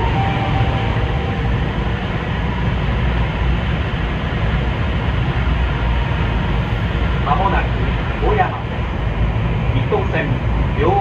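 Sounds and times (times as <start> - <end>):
train running noise drone: 0.0 - 11.0.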